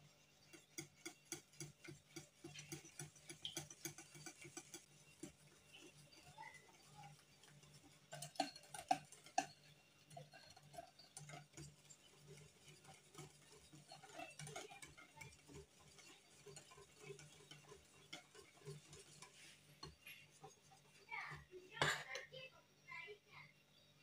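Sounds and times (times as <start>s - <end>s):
whisk scraping glass bowl: 0.0s - 22.5s
whisk tapping bowl: 0.0s - 22.5s.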